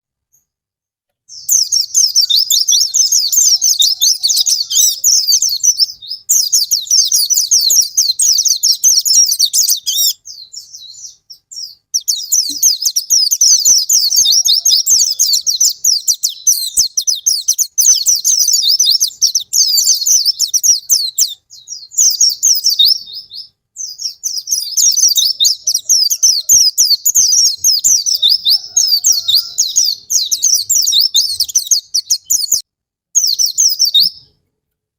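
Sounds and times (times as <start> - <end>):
bird twittering song: 1.3 - 34.4.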